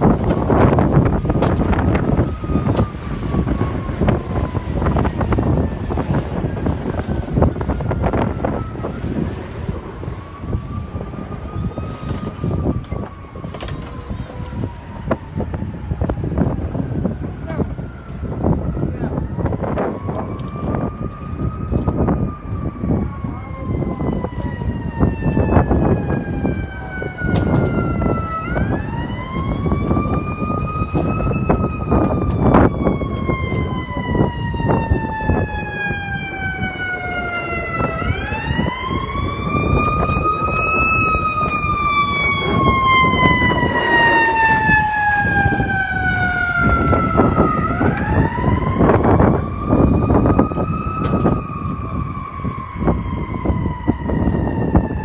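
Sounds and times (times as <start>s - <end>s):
siren wailing: 0.0s - 55.0s.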